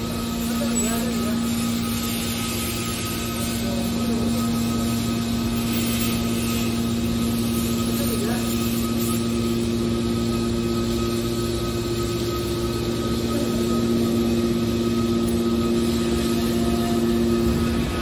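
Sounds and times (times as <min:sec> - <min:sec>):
hydraulic baler humming and whining: 0:00.0 - 0:18.0.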